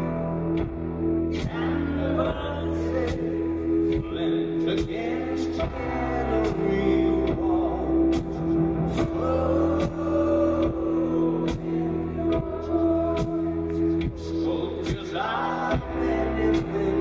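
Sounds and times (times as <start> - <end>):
slow drum beat: 0.0 - 2.5, 3.1 - 17.0
live rock band: 0.0 - 17.0
man singing: 0.0 - 17.0.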